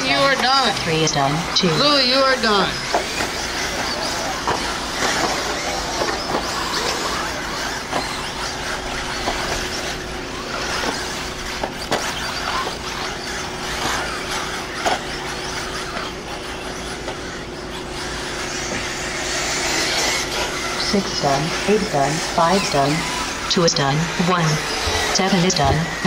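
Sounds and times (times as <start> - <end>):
electric motor whine: 0.0 - 26.0.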